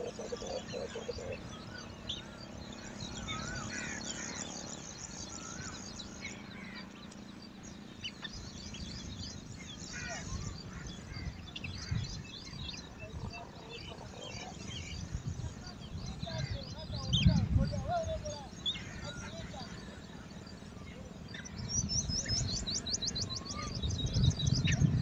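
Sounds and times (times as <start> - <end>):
small birds chirping and whistling: 0.0 - 25.0.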